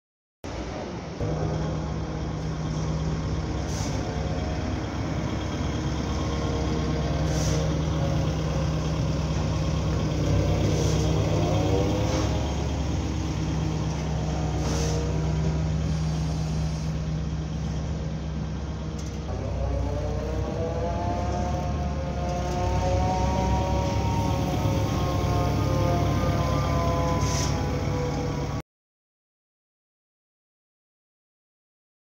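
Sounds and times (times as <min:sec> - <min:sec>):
diesel engine running: 0:00.5 - 0:28.6.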